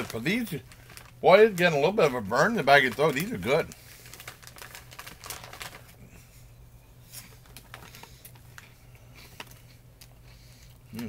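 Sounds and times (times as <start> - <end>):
crunching cheese puffs: 0.0 - 6.3, 7.0 - 11.0
steady low hum: 0.0 - 11.0.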